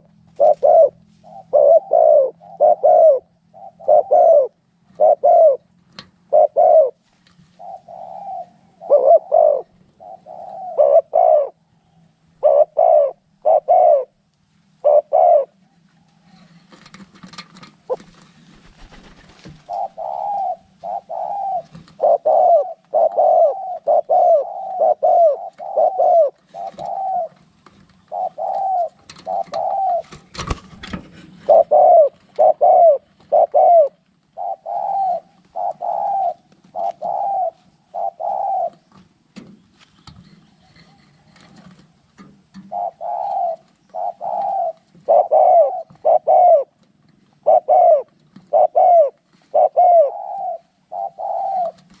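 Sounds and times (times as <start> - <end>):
doves cooing: 0.0 - 52.0.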